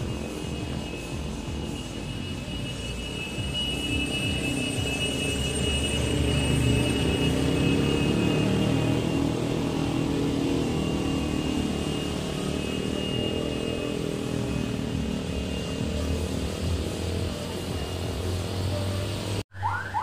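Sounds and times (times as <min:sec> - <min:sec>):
minibus engine droning: 0:00.0 - 0:20.0.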